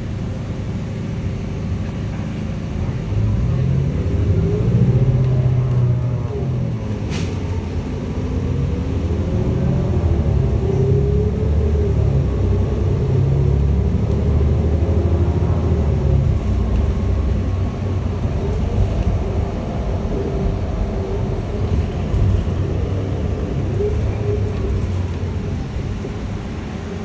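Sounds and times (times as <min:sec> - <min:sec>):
bus engine under load: 0:00.0 - 0:27.0.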